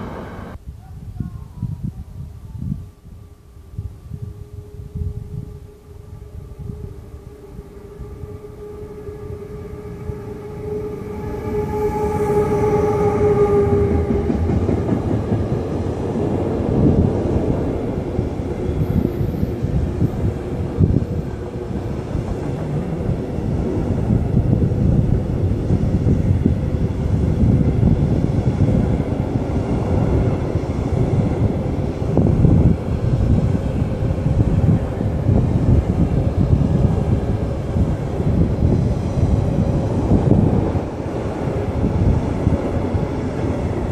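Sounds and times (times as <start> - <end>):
electric locomotive hum: 0.0 - 0.6, 2.4 - 43.9
train wheels rumbling: 0.0 - 0.6, 4.4 - 43.9.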